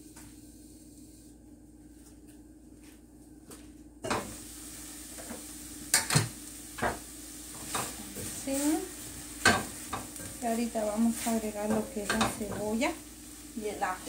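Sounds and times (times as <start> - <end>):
chicken sizzling in a pot: 0.0 - 1.4, 4.0 - 14.0.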